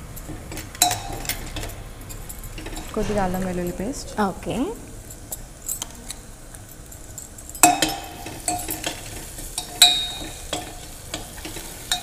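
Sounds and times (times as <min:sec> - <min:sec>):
soft sizzle: 0:00.0 - 0:12.0.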